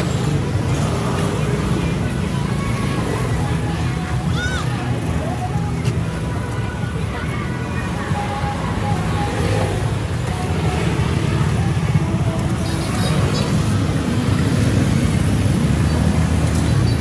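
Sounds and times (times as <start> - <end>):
faint voices: 0.0 - 17.0
street traffic rumble: 0.0 - 17.0.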